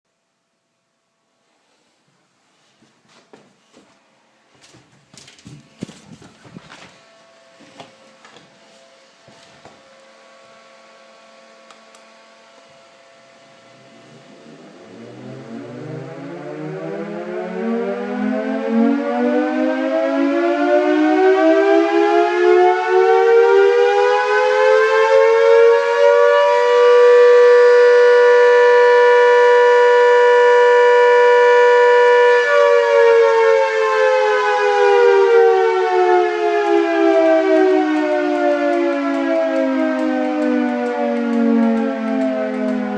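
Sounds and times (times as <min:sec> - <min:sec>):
air raid siren wailing: 0:05.8 - 0:42.9.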